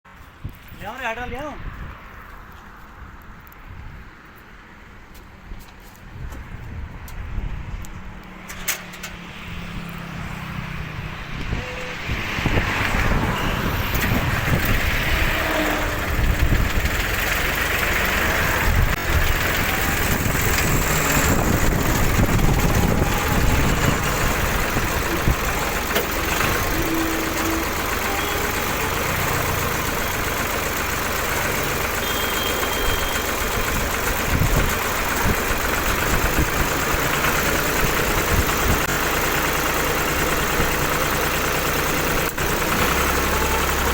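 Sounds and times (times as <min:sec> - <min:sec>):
engine running: 0:05.1 - 0:43.9.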